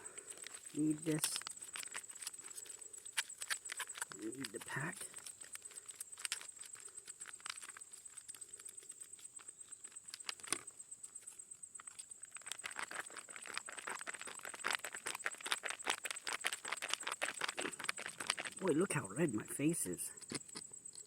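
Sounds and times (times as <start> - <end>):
plastic packaging crinkling: 0.0 - 10.7, 12.1 - 18.7.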